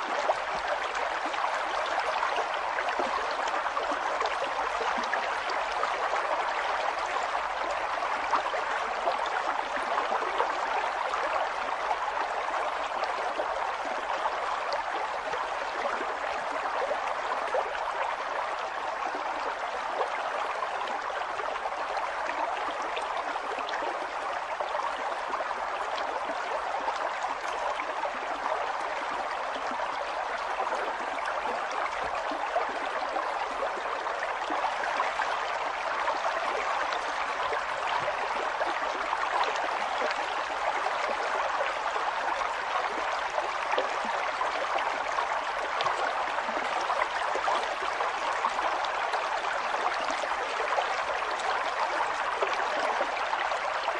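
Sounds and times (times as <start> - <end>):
river water flowing over rocks: 0.0 - 53.9.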